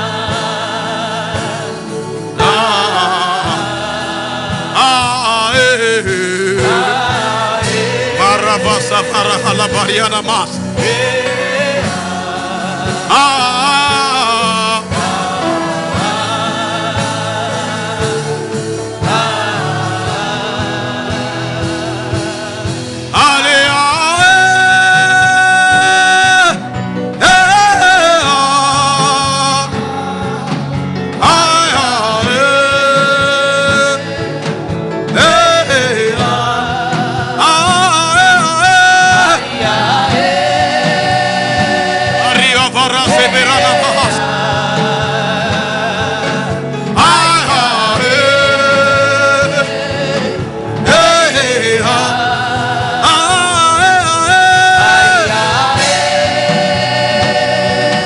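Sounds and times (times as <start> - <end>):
instrumental music: 0.0 - 58.0
worship singing: 0.0 - 58.0.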